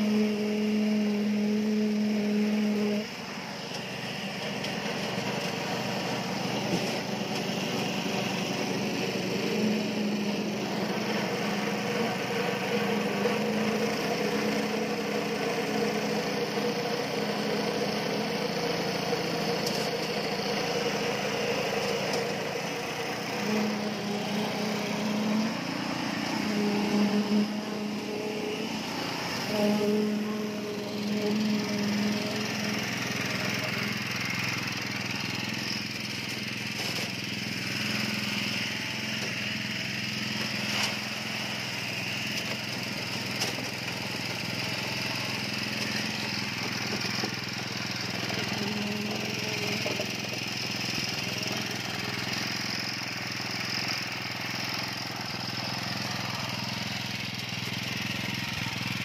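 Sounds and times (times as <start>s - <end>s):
small petrol engine humming: 0.0s - 59.0s.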